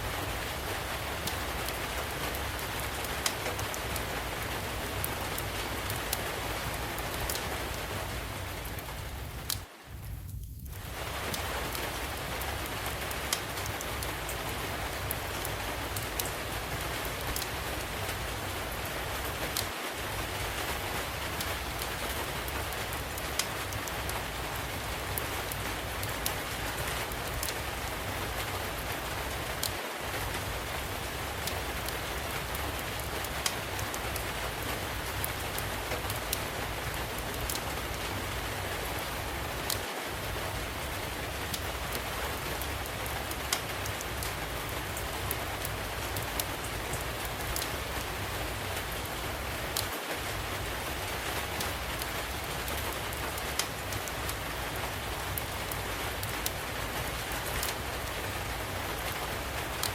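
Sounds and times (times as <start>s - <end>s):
steady rain: 0.0s - 59.9s
wood fire crackling: 0.0s - 59.9s.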